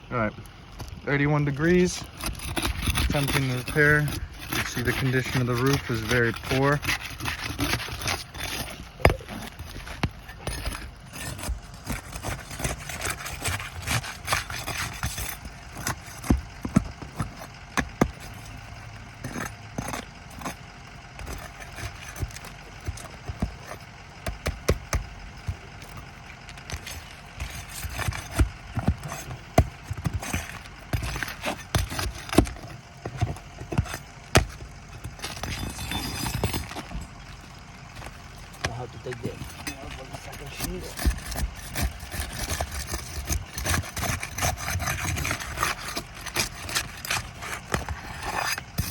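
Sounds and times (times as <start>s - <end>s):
roof shingles being pried loose: 0.8s - 48.9s.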